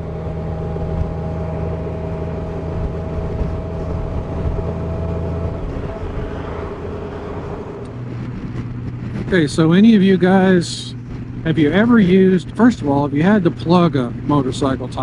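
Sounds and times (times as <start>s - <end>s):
motorcycle engine hum: 0.0s - 15.0s
road and wind noise: 0.0s - 15.0s.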